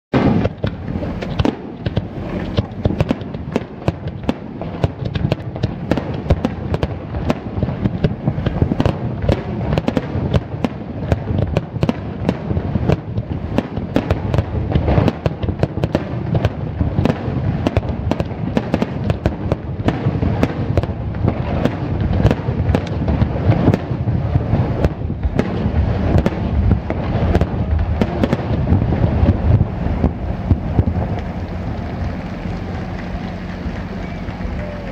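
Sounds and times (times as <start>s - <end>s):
firework shells bursting: 0.1s - 34.9s.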